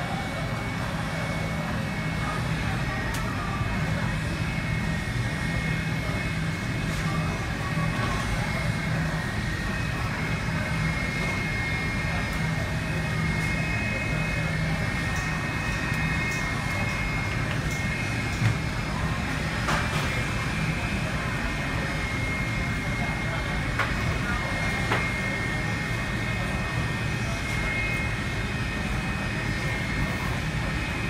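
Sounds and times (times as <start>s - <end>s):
jet engines idling with whine: 0.0s - 31.0s.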